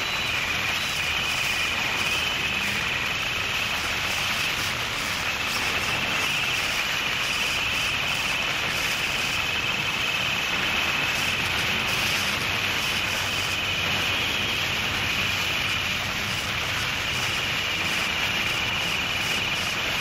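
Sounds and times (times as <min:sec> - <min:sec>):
bright wavering hiss: 0:00.0 - 0:20.0
distorted static noise: 0:00.0 - 0:20.0.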